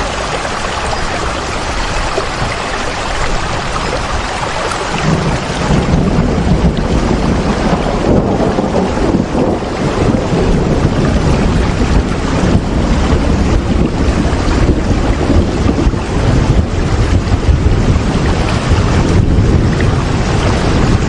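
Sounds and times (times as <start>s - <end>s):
deep rumble: 0.0s - 21.0s
steady rain: 0.0s - 21.0s.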